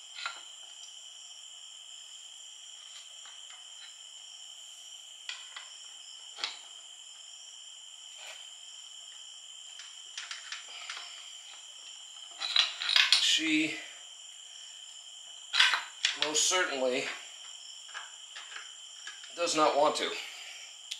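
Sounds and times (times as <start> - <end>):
high insect trill: 0.0 - 20.9.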